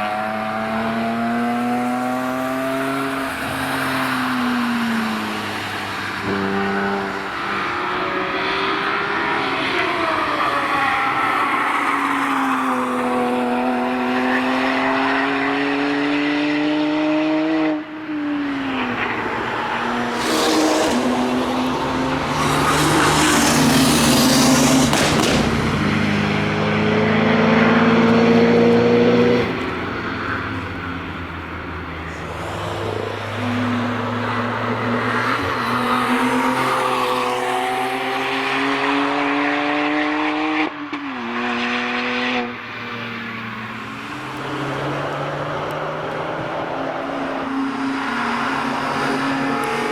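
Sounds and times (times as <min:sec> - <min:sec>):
race car engines at high revs: 0:00.0 - 0:49.9.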